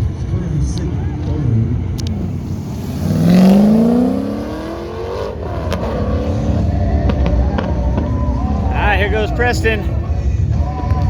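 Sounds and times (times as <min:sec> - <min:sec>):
truck engine accelerating: 0:00.0 - 0:10.2.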